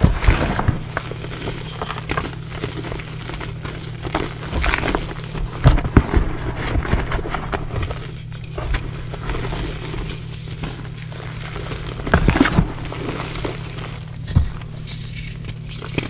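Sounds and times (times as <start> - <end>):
chalk crunching and crumbling: 0.0 - 16.0
steady low hum: 0.0 - 16.0.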